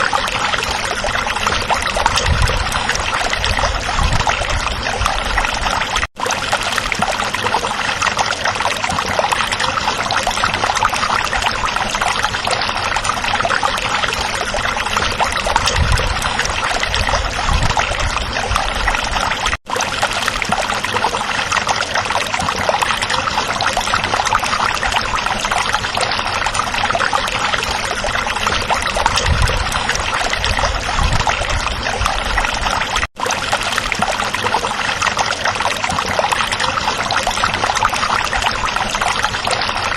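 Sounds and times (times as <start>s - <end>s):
stream water running over stones: 0.0s - 39.9s.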